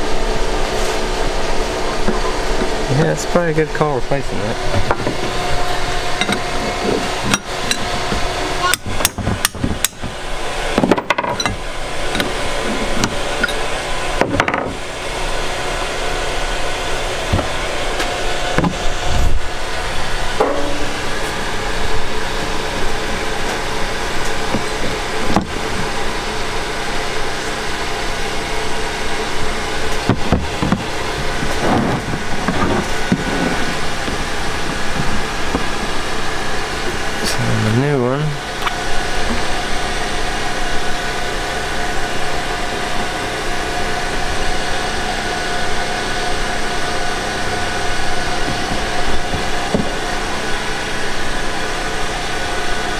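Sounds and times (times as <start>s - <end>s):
steady background hum: 0.0s - 52.9s.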